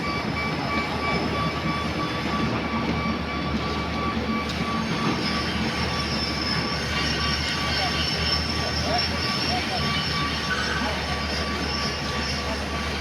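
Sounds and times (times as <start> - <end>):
construction machinery humming: 0.0 - 13.0.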